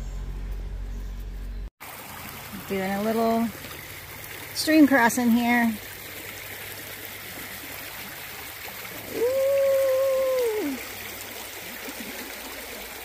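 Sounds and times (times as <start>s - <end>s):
stream trickling: 1.8s - 13.0s.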